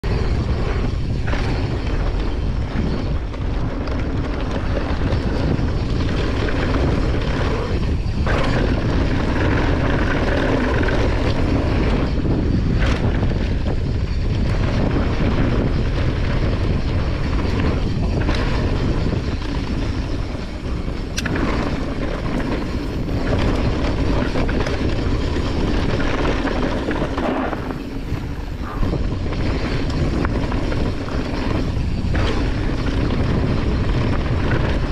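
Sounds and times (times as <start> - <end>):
bike tyres rolling on dirt: 0.0 - 34.9
wind on microphone: 0.0 - 34.9.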